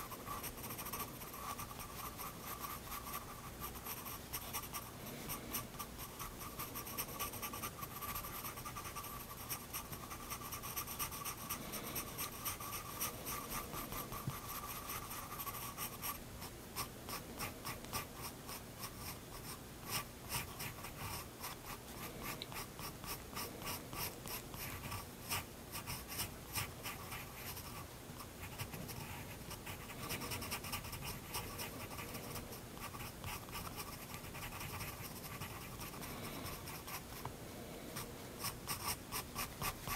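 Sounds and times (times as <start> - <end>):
pencil scratching on paper: 0.0 - 27.8, 28.4 - 37.2, 38.0 - 39.9.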